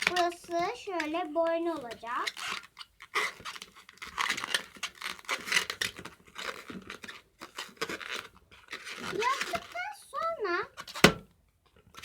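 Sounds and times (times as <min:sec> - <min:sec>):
balloon rubbing and creaking: 0:00.0 - 0:11.3.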